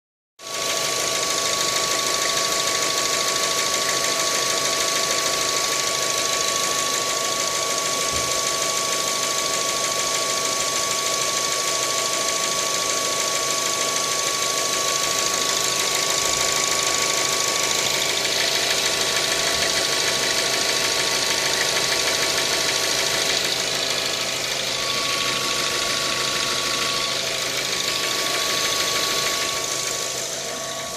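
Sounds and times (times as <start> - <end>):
car engine running: 0.4 - 30.9
engine knocking: 0.4 - 30.9.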